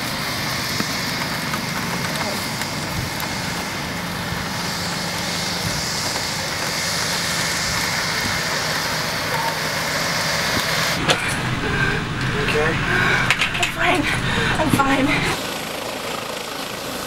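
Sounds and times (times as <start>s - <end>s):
helicopter turbine engine running: 0.0s - 17.0s.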